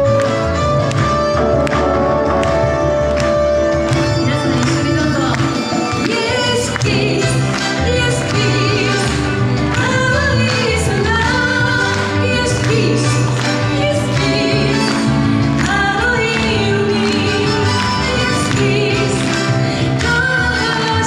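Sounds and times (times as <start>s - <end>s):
live band playing: 0.0s - 21.0s
woman singing into a microphone: 4.1s - 21.0s.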